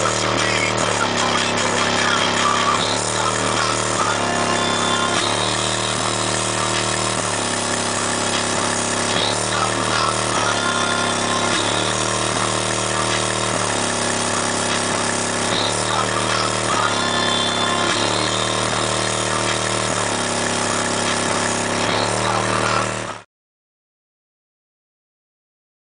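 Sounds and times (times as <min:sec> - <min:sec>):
bass-heavy music through subwoofers: 0:00.0 - 0:23.2.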